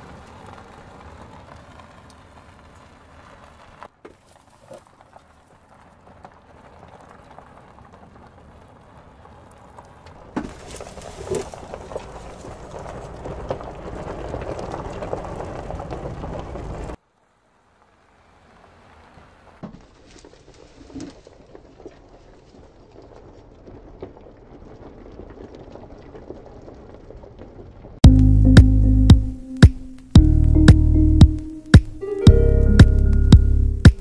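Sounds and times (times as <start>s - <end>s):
tyre and road noise: 0.0s - 34.0s.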